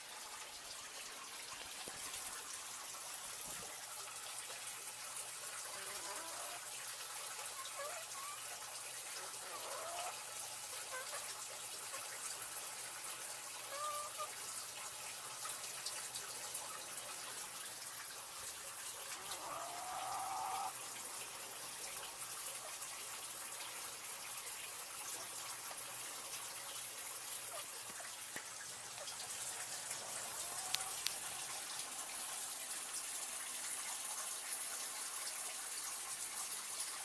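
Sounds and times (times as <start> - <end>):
water running and trickling: 0.0 - 37.0.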